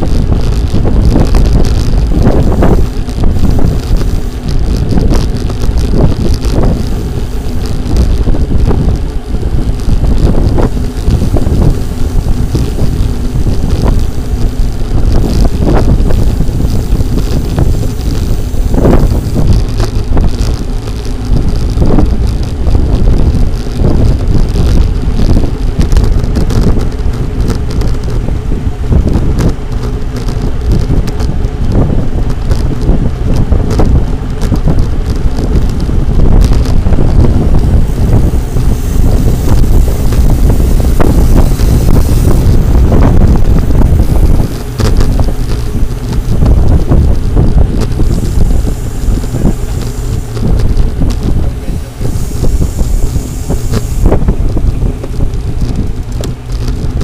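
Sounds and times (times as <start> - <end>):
low road rumble: 0.0 - 57.0
wind noise on microphone: 0.0 - 57.0.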